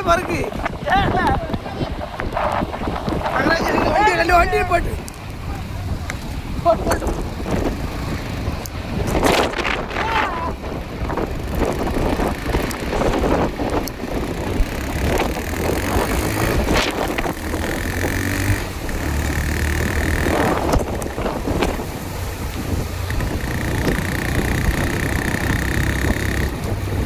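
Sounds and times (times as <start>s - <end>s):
strong wind buffeting microphone: 0.0s - 27.0s.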